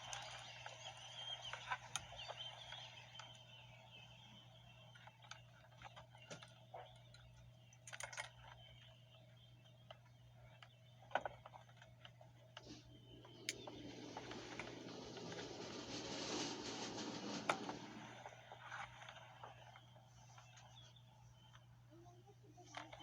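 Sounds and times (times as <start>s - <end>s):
low steady hum: 3.2s - 23.0s.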